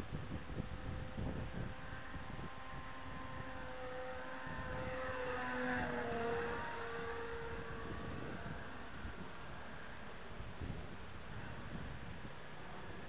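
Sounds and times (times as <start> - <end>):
model plane motors whining: 0.0 - 13.0
wind buffeting microphone: 0.0 - 13.0.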